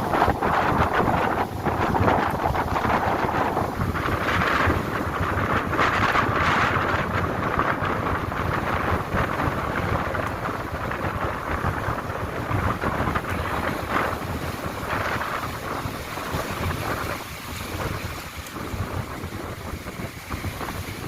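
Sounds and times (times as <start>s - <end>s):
sea waves breaking on beach: 0.0s - 21.0s
wind buffeting microphone: 0.0s - 21.0s.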